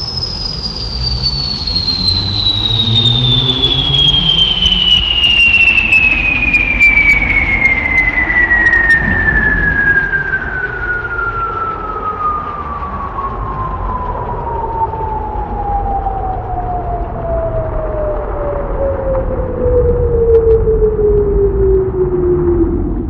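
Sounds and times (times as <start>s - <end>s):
low rumbling noise: 0.0s - 23.0s
synth tone gliding down: 0.0s - 23.0s.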